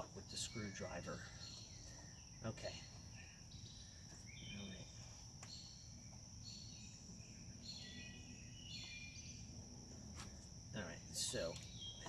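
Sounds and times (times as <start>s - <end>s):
insect chirping calls: 0.0s - 12.0s
insects trilling: 0.0s - 12.0s.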